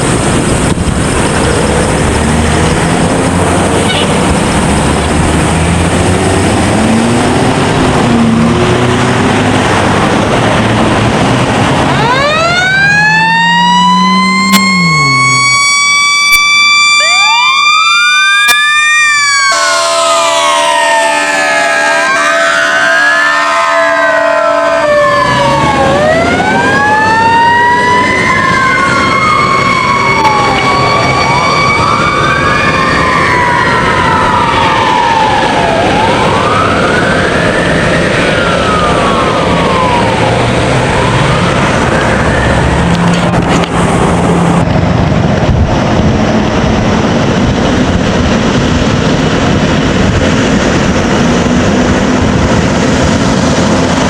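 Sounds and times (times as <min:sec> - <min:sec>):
fire truck sirens: 0:00.0 - 0:54.0
truck engine and road noise: 0:00.0 - 0:54.0.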